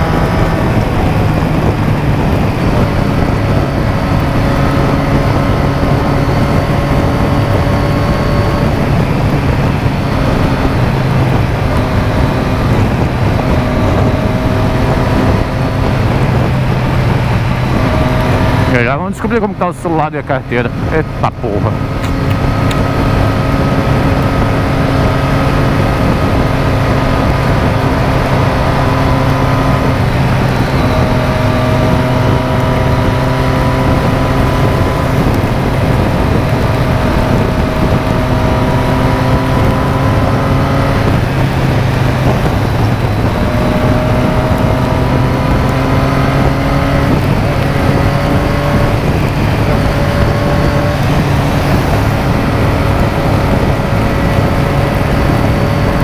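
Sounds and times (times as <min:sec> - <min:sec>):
motorcycle engine accelerating: 0:00.0 - 0:56.0
wind rushing: 0:00.0 - 0:56.0
wet road noise: 0:08.2 - 0:56.0.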